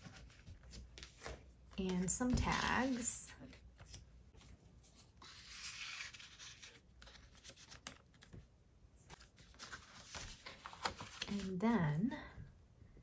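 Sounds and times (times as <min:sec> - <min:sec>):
paper being handled: 0:00.0 - 0:08.4, 0:09.0 - 0:11.6
paper rustling: 0:00.0 - 0:08.4, 0:09.0 - 0:11.6.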